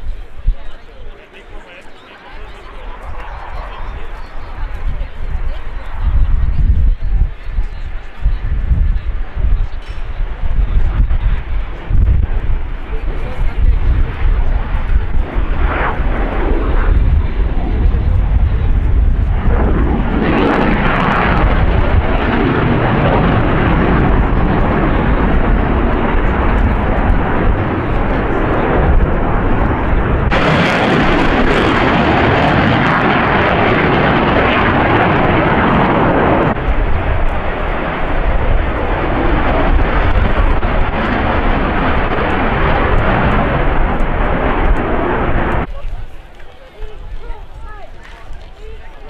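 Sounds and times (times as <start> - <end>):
aircraft engine rushing: 0.0 - 49.0.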